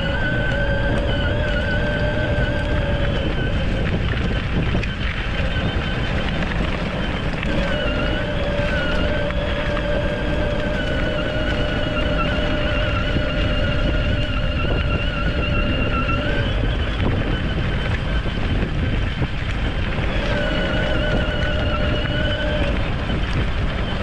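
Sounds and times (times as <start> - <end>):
electric motors whining: 0.0 - 24.0
low rumbling noise: 0.0 - 24.0.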